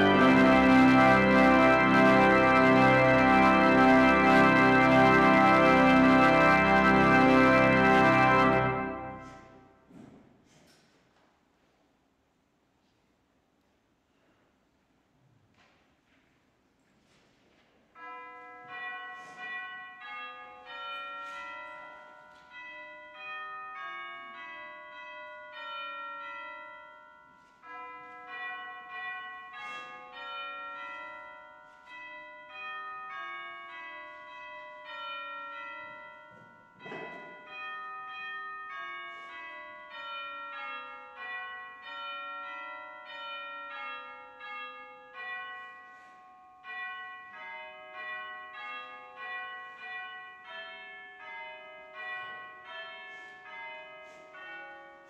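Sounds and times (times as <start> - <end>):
bells ringing a slow melody: 0.0 - 9.8, 17.9 - 55.0.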